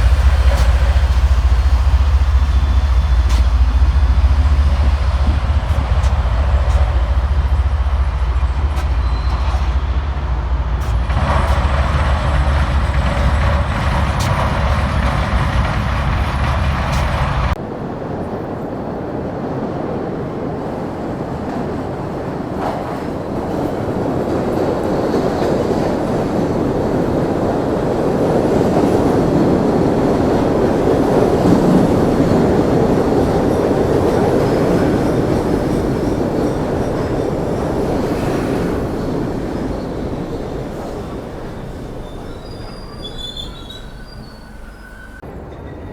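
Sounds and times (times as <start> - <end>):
train deep rumble: 0.0 - 45.9
train rushing rail noise: 0.0 - 45.9.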